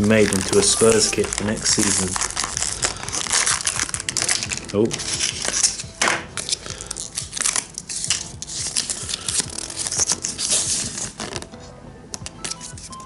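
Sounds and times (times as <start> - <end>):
plastic and cardboard tearing: 0.0 - 11.7
light background music: 0.0 - 13.0.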